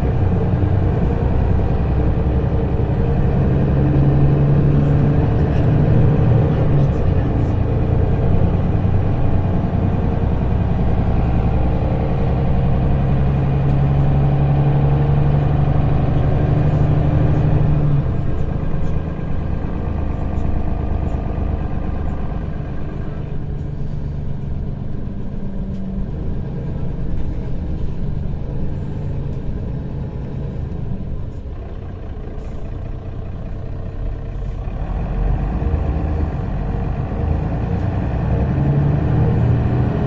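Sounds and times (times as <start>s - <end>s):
bus engine hum: 0.0s - 40.0s.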